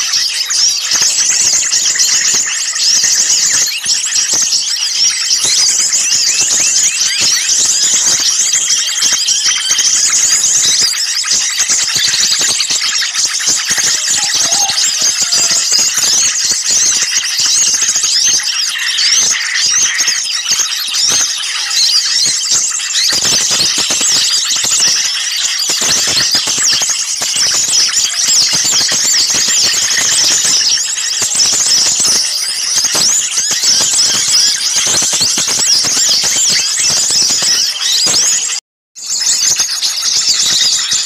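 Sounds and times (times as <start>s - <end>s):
chorus of small songbirds chirping: 0.0s - 41.0s.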